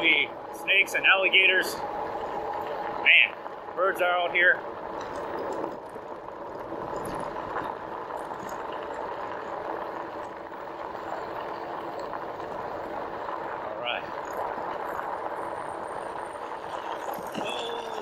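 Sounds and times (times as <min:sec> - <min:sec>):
bike tyres rolling on gravel: 0:00.0 - 0:18.0.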